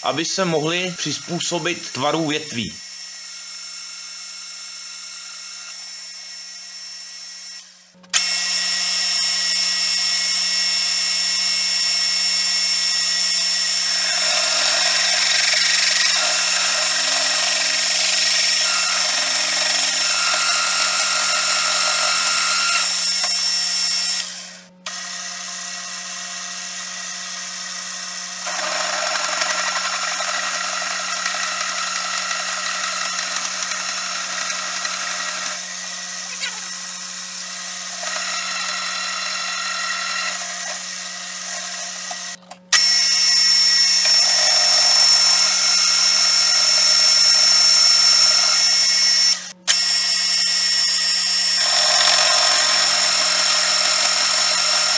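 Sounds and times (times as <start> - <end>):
drill boring through steel: 0.0 - 54.9
motor hum and whine: 0.0 - 54.9.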